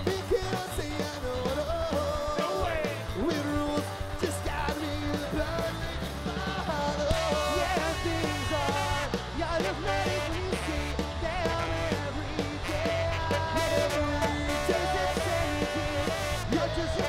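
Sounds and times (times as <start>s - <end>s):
bass guitar: 0.0s - 17.0s
drums: 0.0s - 17.0s
electric guitar: 0.0s - 17.0s
horns: 0.0s - 17.0s.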